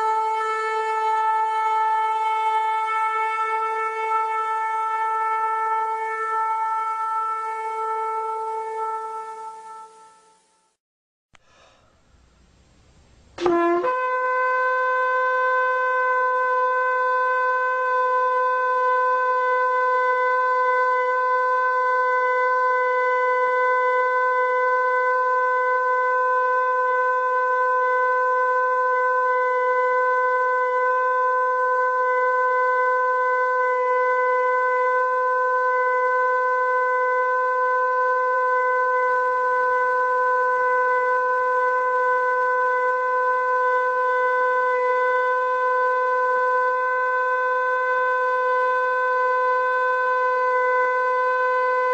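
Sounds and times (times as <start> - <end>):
shofar blast: 0.0 - 10.7, 13.4 - 51.9.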